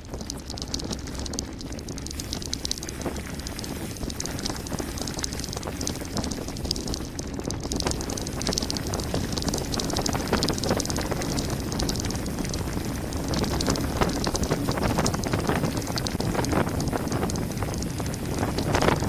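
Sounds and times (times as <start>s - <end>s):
bike rattling clicks: 0.0s - 19.0s
bike tyres crunching over gravel: 0.0s - 19.0s
wind rumble on microphone: 0.0s - 19.0s.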